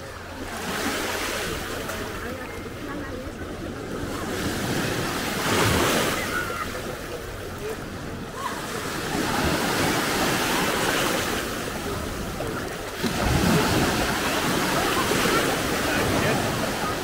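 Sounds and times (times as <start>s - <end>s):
waves washing onto sandy shore: 0.0s - 17.0s.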